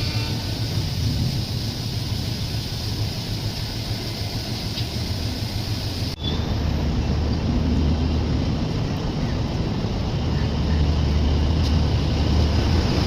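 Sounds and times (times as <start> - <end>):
train rumble and hiss: 0.0 - 13.0.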